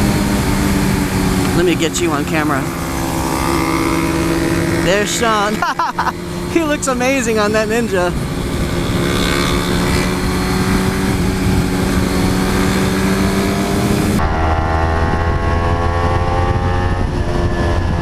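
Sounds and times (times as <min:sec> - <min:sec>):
motorcycle engine at speed: 0:00.0 - 0:18.0
wind rush: 0:00.0 - 0:18.0.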